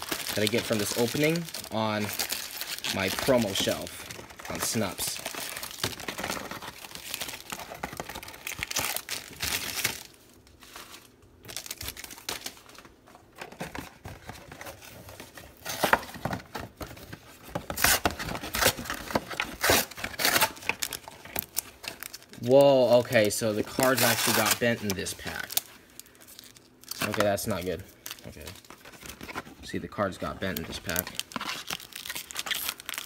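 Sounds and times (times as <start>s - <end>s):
plastic crinkling: 0.0s - 16.1s, 17.7s - 33.0s.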